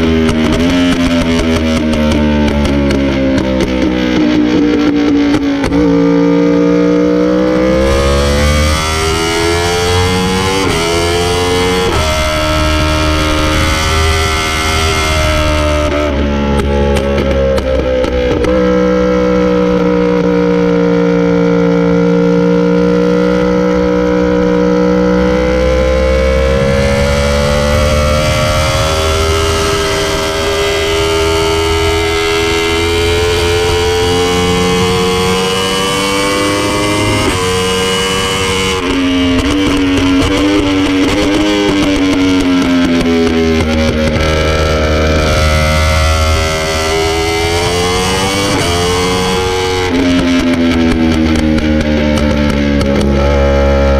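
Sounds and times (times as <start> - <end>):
motorcycle engine running hard: 0.0 - 53.9.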